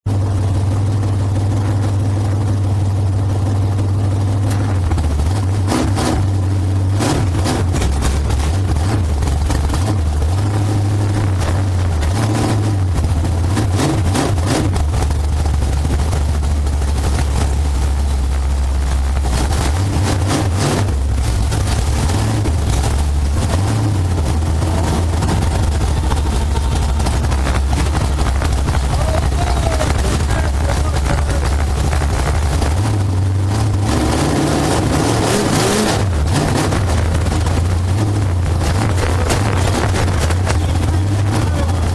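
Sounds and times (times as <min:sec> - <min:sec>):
race car engine idling: 0:00.0 - 0:41.9
knocks and clatters: 0:04.2 - 0:41.9.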